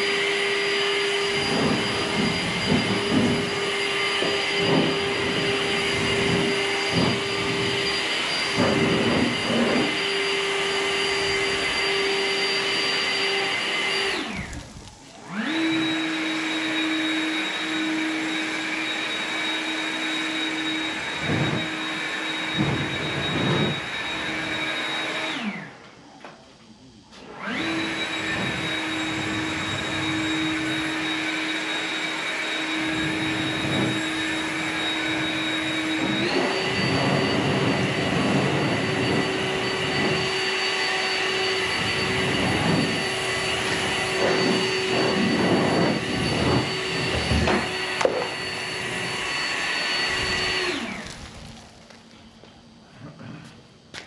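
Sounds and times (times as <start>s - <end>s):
blower motor whine: 0.0s - 54.0s.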